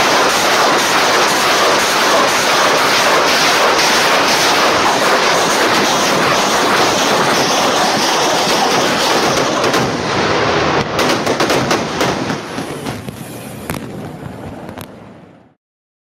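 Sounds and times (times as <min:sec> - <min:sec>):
pyrotechnic cracks and bangs: 0:00.0 - 0:15.0
armoured vehicles rumbling: 0:00.0 - 0:15.6.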